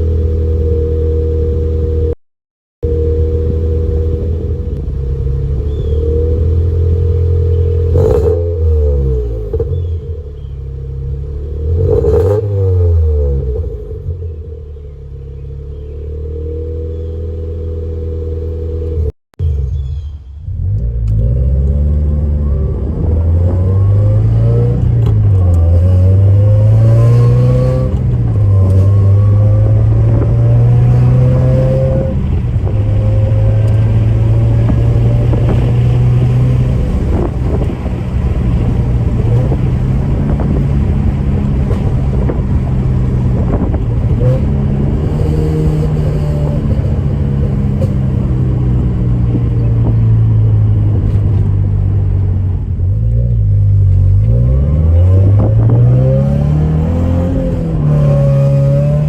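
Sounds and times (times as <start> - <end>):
raspy exhaust: 0.0 - 2.2, 2.8 - 59.0
car engine accelerating through gears: 2.8 - 59.0.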